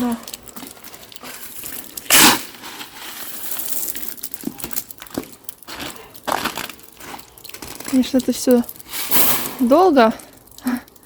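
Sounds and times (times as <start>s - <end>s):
gravel crunching and scraping: 0.0s - 11.0s.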